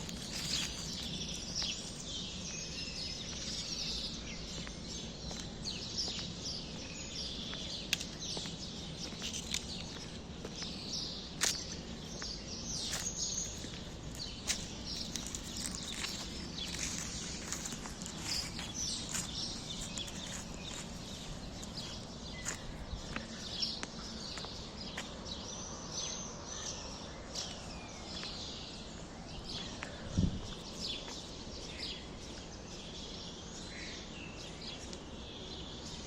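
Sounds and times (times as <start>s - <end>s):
small birds chirping chorus: 0.0s - 36.0s.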